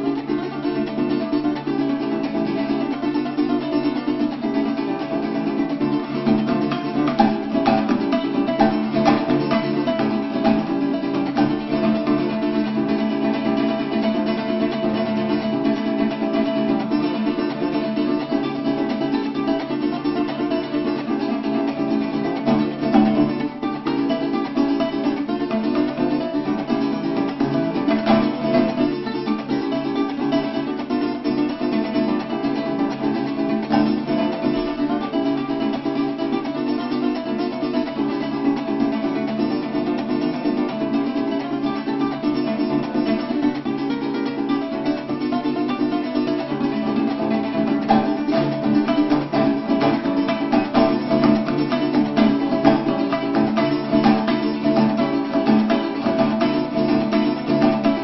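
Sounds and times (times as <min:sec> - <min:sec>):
bandola picking melody: 0:00.0 - 0:58.0
cuatro accompaniment: 0:00.0 - 0:58.0.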